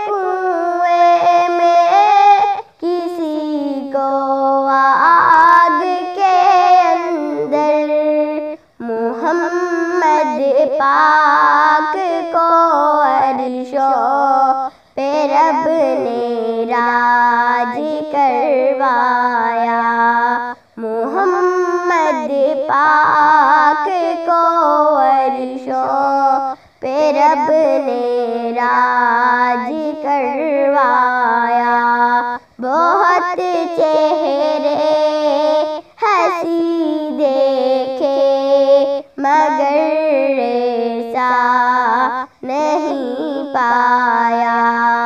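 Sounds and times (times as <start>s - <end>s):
girl singing unaccompanied: 0.0s - 45.0s.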